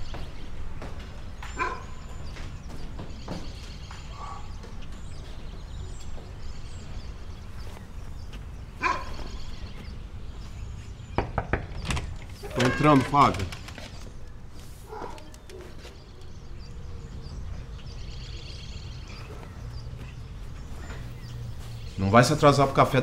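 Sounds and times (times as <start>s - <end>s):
animal calling: 1.4s - 11.0s, 12.3s - 23.0s
faint bird chirps: 1.4s - 23.0s.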